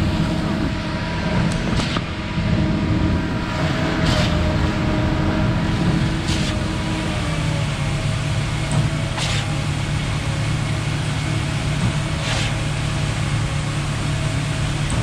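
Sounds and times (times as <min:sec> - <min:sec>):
concrete pump rushing surge: 0:00.0 - 0:15.0
truck engine running at high revs: 0:00.0 - 0:15.0.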